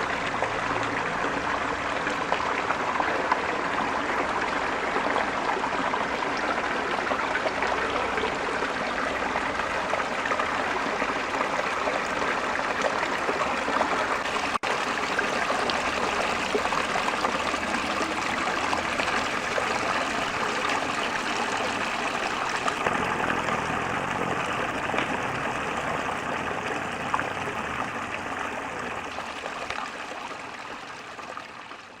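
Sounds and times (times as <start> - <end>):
mountain river flowing: 0.0 - 32.0.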